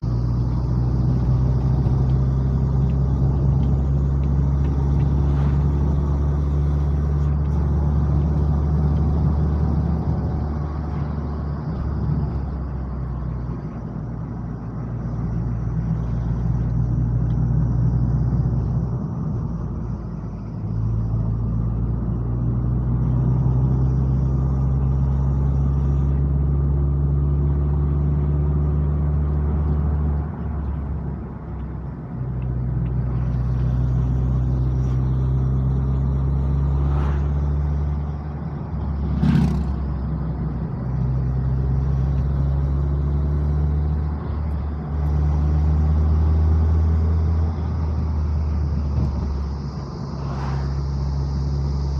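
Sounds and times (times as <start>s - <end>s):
car engine drone: 0.0s - 51.9s
road noise: 0.0s - 51.9s.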